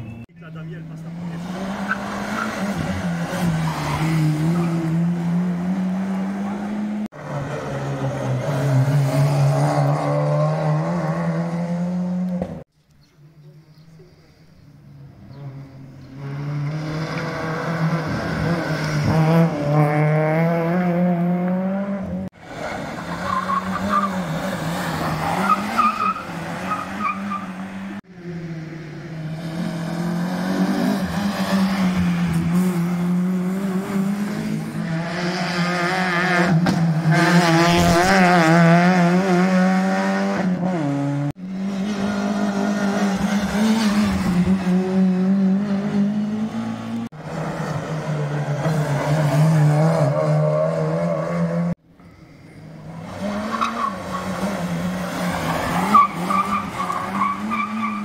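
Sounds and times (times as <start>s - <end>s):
rally cars racing past: 0.5s - 12.6s, 15.0s - 51.8s, 52.5s - 58.0s.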